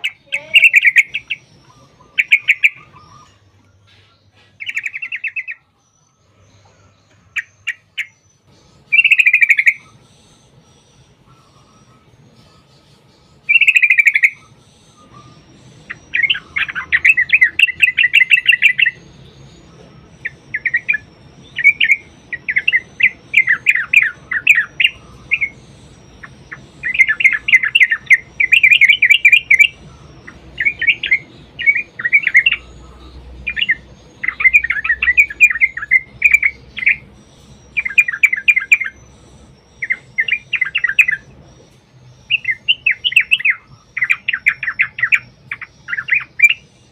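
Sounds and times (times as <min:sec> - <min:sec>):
bird bubbling chatter song: 0:00.0 - 0:05.6, 0:06.6 - 0:46.9.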